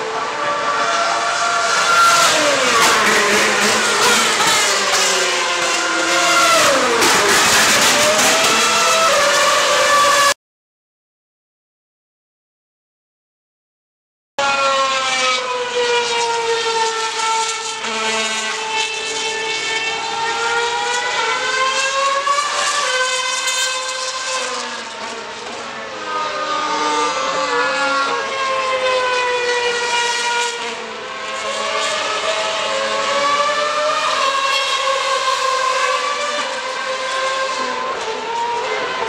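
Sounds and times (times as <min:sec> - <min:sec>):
racing car engines whining: 0:00.0 - 0:10.4, 0:14.4 - 0:39.0.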